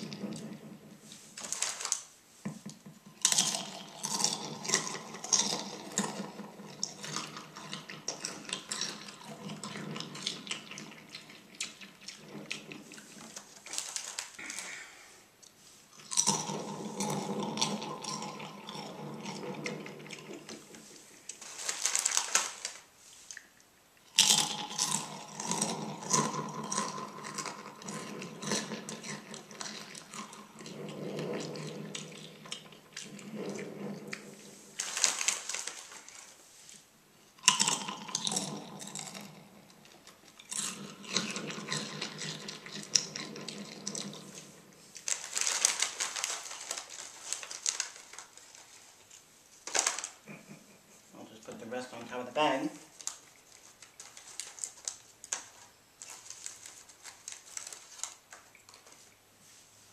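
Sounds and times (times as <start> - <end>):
chips crunching: 1.2 - 2.1, 3.2 - 14.8, 15.9 - 36.4, 37.4 - 50.5, 51.5 - 59.2.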